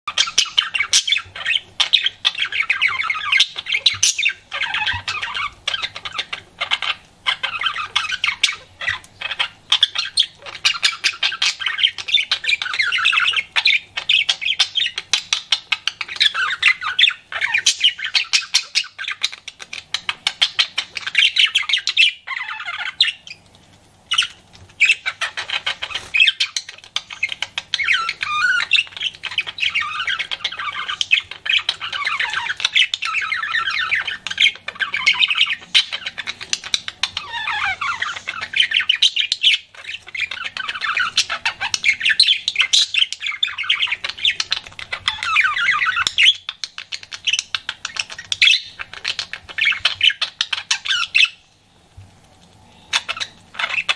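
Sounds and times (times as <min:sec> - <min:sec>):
budgerigar chattering: 0:00.1 - 0:23.3, 0:24.1 - 0:51.4.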